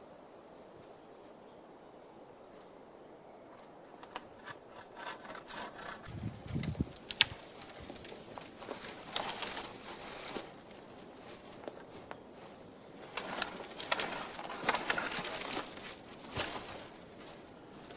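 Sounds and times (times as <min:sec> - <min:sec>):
crackling and rustling: 0:03.5 - 0:17.9.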